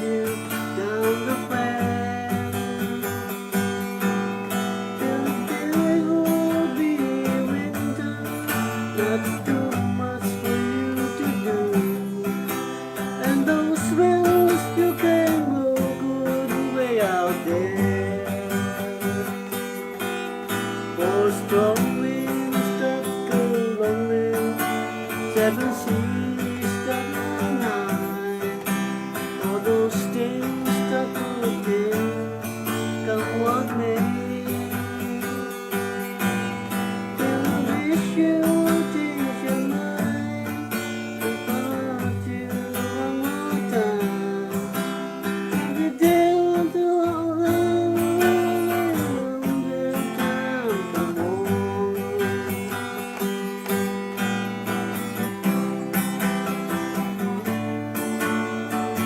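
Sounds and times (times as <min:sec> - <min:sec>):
acoustic guitar strumming: 0:00.0 - 0:59.0
sliding guitar melody: 0:00.0 - 0:59.0.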